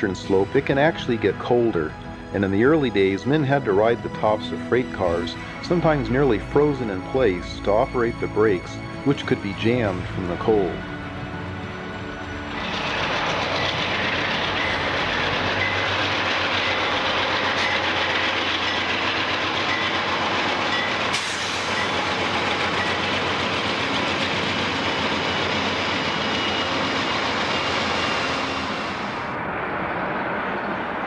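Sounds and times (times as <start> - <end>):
train wheels rushing on rail: 0.0 - 31.0.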